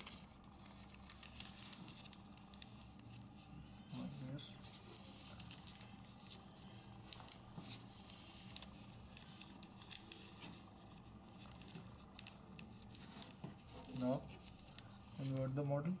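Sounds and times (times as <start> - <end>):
origami paper crinkling: 0.0 - 15.8
faint low hum: 0.0 - 16.0.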